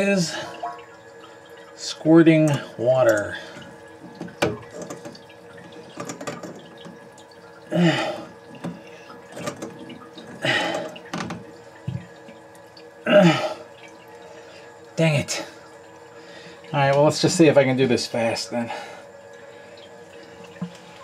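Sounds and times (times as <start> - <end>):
water squirting and dripping: 0.0 - 21.0.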